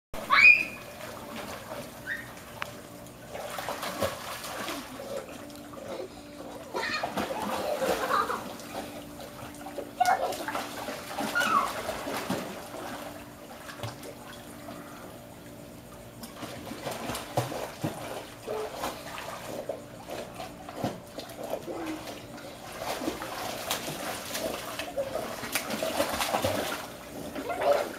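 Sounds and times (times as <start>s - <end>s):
dogs splashing in water: 0.3s - 14.6s, 16.2s - 27.9s.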